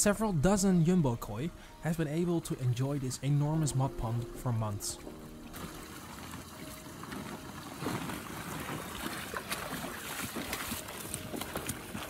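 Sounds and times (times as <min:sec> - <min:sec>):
water sloshing and trickling: 0:01.0 - 0:12.0.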